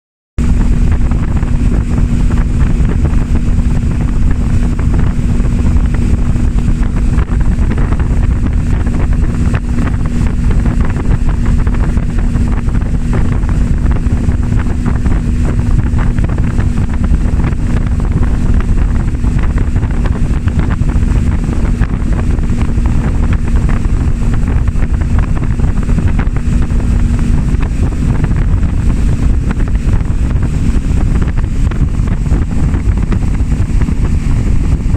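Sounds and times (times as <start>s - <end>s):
outboard motor running: 0.4s - 34.9s
wind buffeting microphone: 0.4s - 34.9s.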